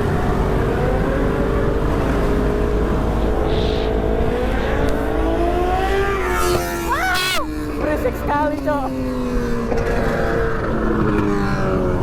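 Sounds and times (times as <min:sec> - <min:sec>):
motorcycle engine running: 0:00.0 - 0:12.0
wind rumbling on microphone: 0:00.0 - 0:12.0.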